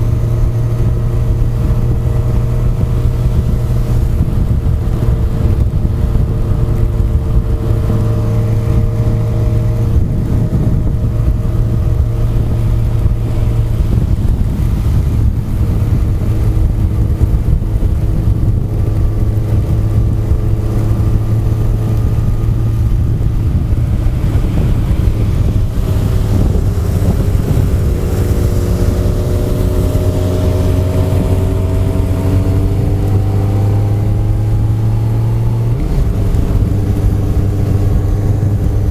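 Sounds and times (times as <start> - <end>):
motorcycle engine at speed: 0.0 - 38.9
wind rushing: 0.0 - 38.9.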